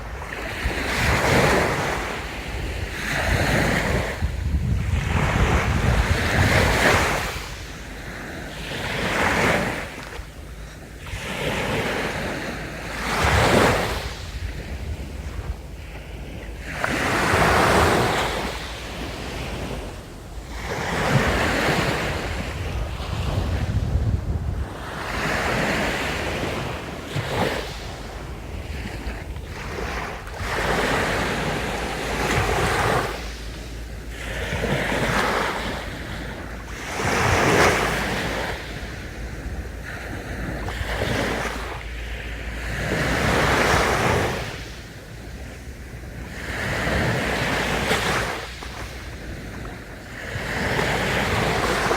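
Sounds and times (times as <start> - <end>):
sea waves breaking on beach: 0.0 - 51.9.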